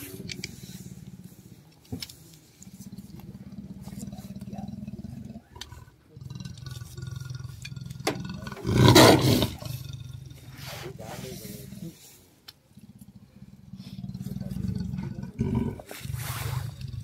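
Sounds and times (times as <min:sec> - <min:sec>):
leopard growling: 0:00.0 - 0:17.0
leopard snarl: 0:02.7 - 0:17.0.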